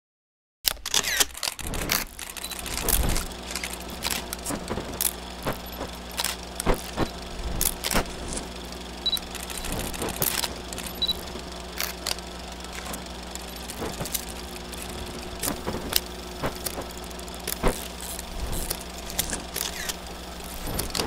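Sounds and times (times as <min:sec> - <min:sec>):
film projector motor hum: 0:00.7 - 0:21.0
film crackle clicks and pops: 0:00.9 - 0:21.0.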